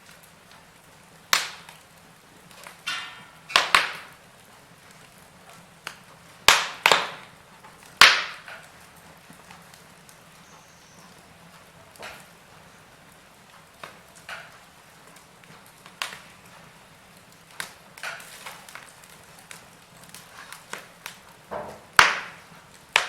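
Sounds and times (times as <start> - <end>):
loud snaps of fire: 0.0 - 23.0
wood fire crackling: 0.0 - 23.0.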